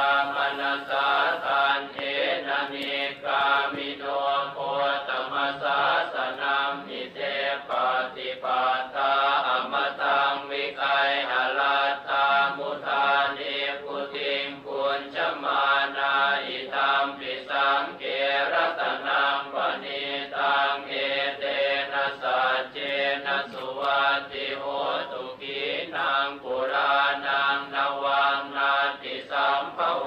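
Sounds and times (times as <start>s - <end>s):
rhythmic chanting: 0.0s - 30.0s.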